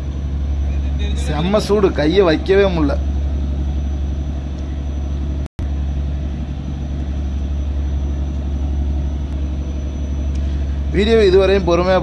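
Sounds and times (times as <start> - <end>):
boat diesel engine humming: 0.0 - 12.0.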